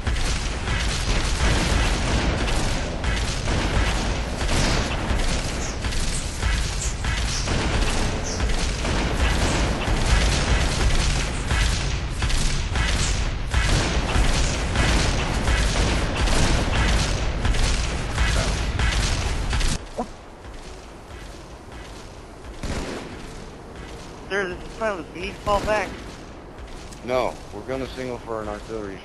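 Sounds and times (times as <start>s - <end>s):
heavy booms: 0.0s - 29.0s
rapid gunfire: 0.0s - 29.0s.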